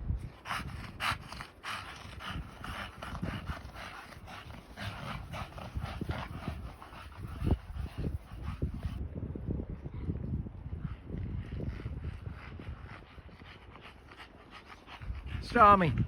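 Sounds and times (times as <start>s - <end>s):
dog panting: 0.2s - 9.0s, 10.9s - 16.0s.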